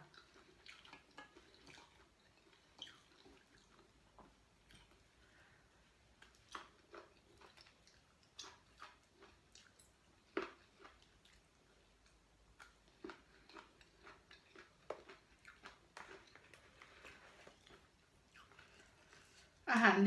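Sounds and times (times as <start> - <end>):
person chewing raw vegetables: 0.0 - 19.7.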